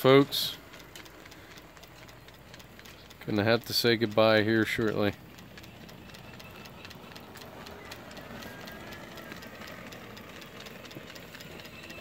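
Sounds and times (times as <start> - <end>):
model steam engine running: 0.0 - 12.0
quick regular ticking: 0.0 - 12.0.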